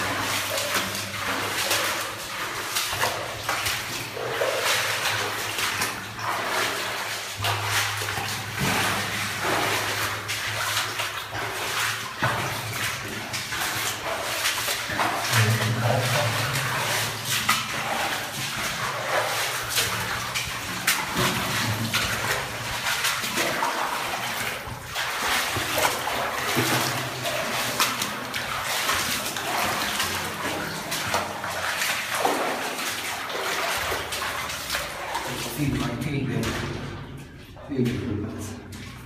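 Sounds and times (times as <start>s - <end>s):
footsteps splashing through water: 0.0s - 39.0s.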